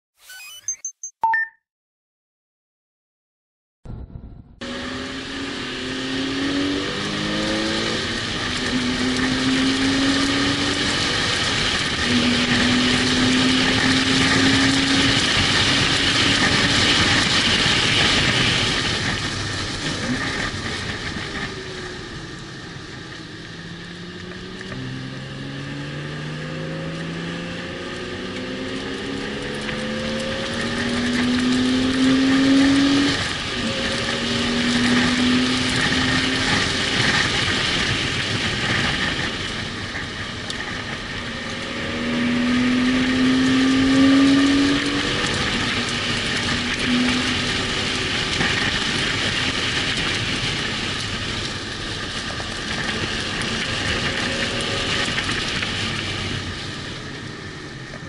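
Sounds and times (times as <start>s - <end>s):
car engine at full throttle: 3.9s - 58.0s
wind and tyre noise: 3.9s - 58.0s.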